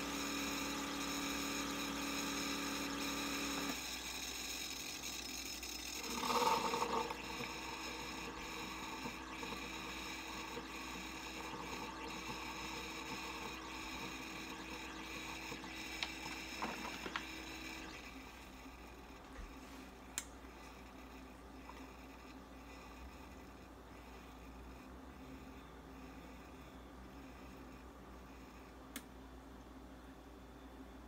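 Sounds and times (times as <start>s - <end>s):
coffee maker pump humming: 0.0s - 29.0s.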